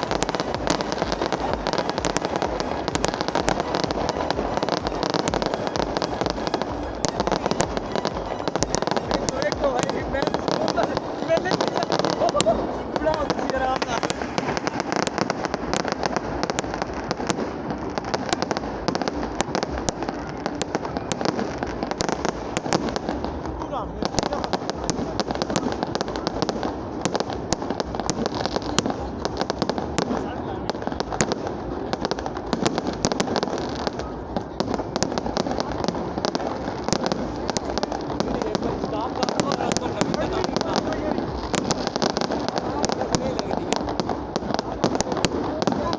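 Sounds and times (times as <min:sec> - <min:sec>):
fireworks cracking and banging: 0:00.0 - 0:45.9
rumble of distant fireworks: 0:00.0 - 0:45.9
steady background noise: 0:00.0 - 0:45.9.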